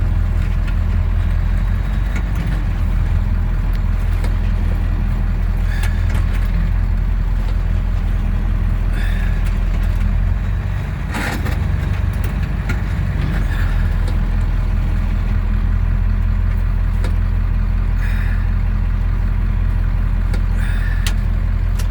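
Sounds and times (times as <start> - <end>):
truck engine idling low: 0.0 - 21.9.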